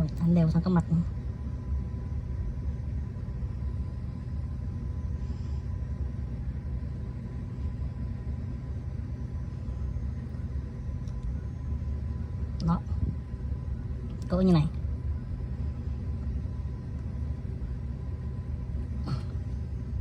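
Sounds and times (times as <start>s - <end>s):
faint even hum: 0.0s - 20.0s
steady low rumble: 0.0s - 20.0s.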